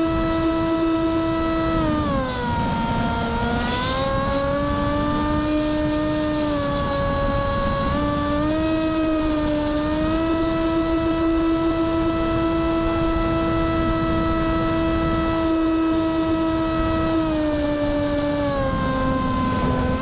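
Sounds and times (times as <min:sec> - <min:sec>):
electric motor and propeller whine: 0:00.0 - 0:20.0
wind rushing over microphone: 0:00.0 - 0:20.0.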